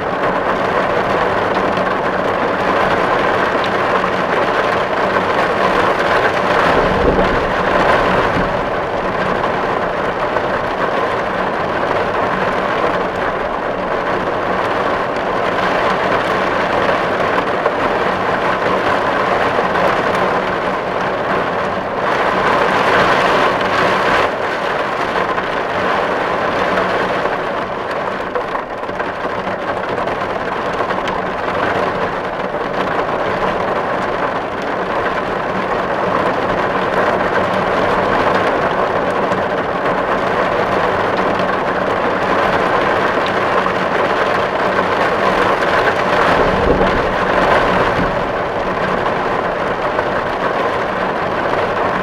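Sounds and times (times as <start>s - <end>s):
heavy rain on a tin roof: 0.0s - 52.0s.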